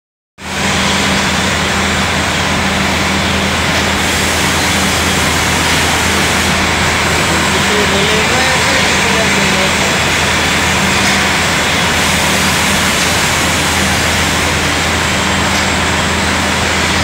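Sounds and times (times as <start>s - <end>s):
loud steady machine noise: 0.4s - 17.0s
low electrical hum: 0.5s - 17.0s.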